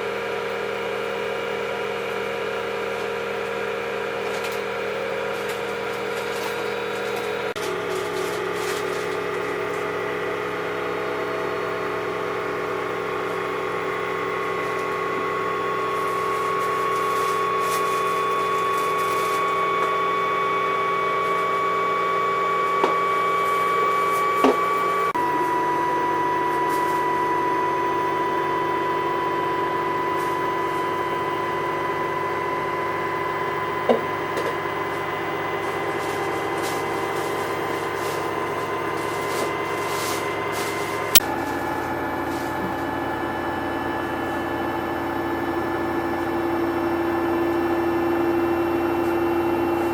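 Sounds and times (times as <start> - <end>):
motor whine: 0.0 - 49.9
washing machine humming: 0.0 - 49.9.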